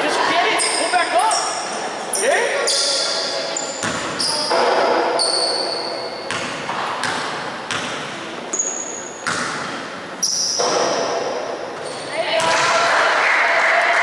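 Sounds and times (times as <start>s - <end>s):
echoing hall noise: 0.0s - 14.0s
basketball shoes squeaking: 0.5s - 12.8s.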